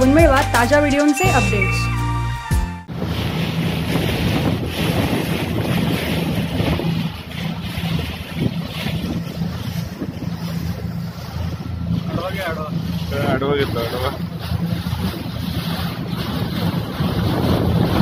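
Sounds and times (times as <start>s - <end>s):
water rushing past hull: 1.4s - 18.0s
outboard motor humming: 2.5s - 18.0s
wind buffeting microphone: 2.9s - 18.0s.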